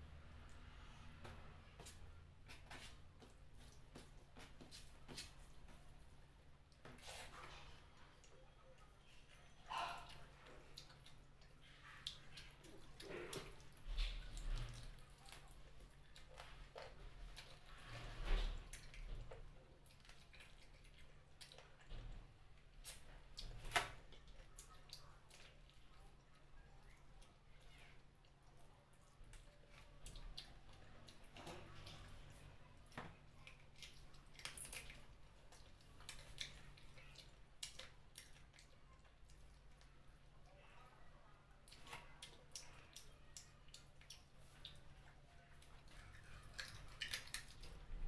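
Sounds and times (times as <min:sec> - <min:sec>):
person chewing wetly: 0:00.4 - 0:40.6, 0:41.6 - 0:48.0.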